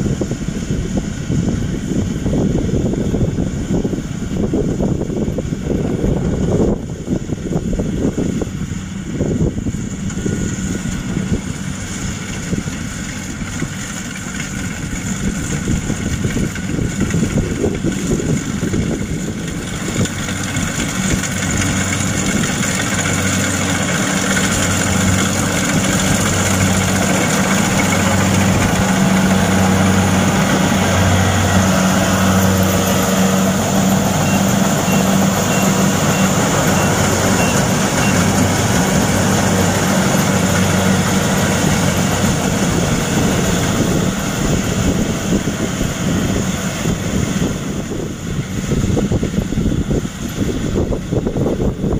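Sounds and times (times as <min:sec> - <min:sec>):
combine harvester engine droning: 0:00.0 - 0:51.9
mechanical threshing noise: 0:07.5 - 0:51.7.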